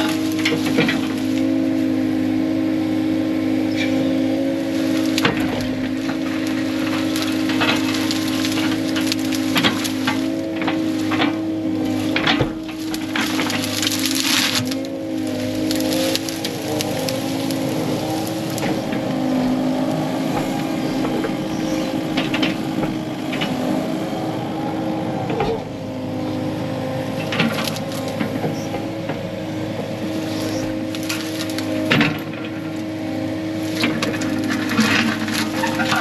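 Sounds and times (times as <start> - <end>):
brush and rock cracking: 0.0 - 2.1, 3.8 - 24.0, 25.3 - 36.0
diesel engine running: 0.0 - 36.0.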